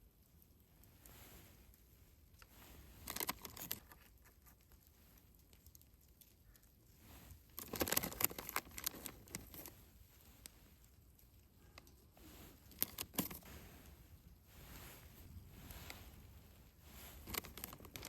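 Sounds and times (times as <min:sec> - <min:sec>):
rustling and crinkling: 0:00.0 - 0:18.0.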